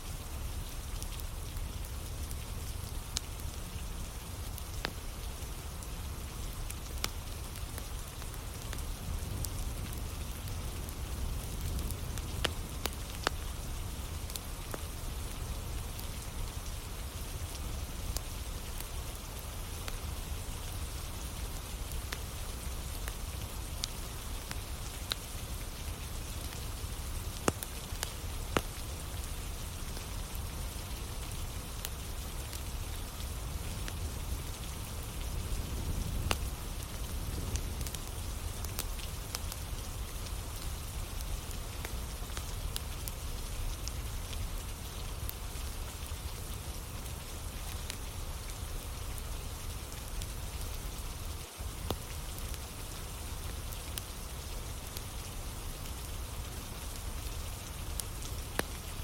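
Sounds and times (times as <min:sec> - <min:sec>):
steady rain: 0:00.0 - 0:59.0
campfire crackling and popping: 0:00.1 - 0:59.0.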